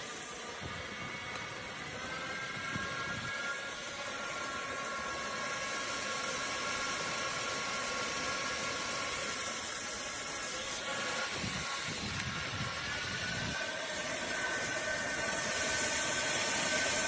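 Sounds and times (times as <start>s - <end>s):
handheld fan running: 0.0s - 17.0s.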